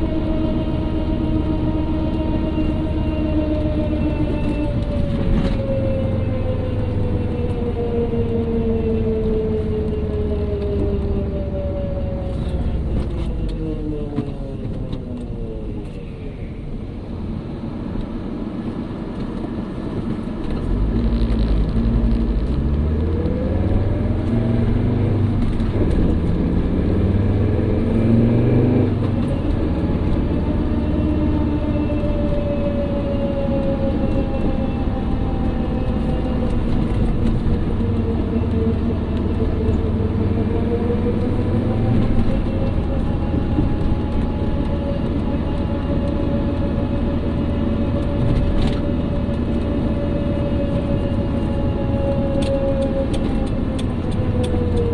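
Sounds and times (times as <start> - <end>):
car engine rumble: 0.0 - 54.9
whirring whine: 0.0 - 54.9.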